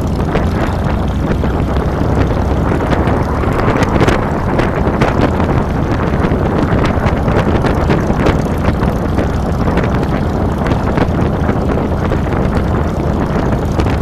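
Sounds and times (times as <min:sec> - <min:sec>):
motorcycle engine running: 0:00.0 - 0:14.0
wind buffeting microphone: 0:00.0 - 0:14.0.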